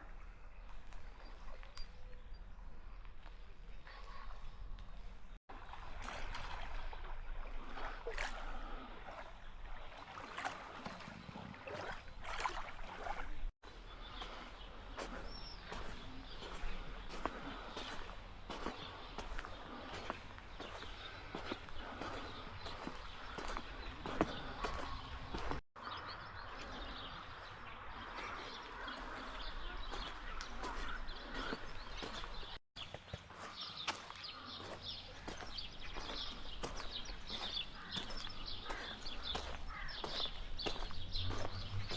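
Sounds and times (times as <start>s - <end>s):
birds chirping: 0.0s - 5.4s, 6.8s - 41.9s
seawater splashing and lapping: 3.8s - 41.9s.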